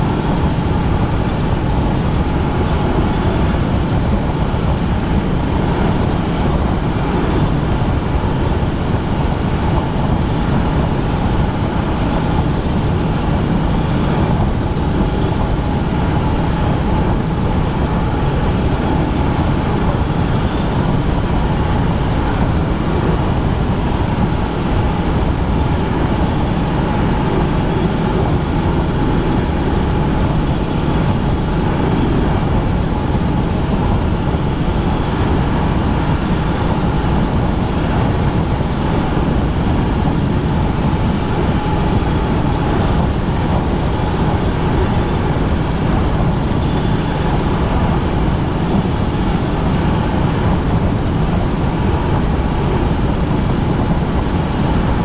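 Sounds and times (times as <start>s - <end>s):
faint whine: 0.0s - 55.0s
helicopter engine and rotors: 0.0s - 55.0s.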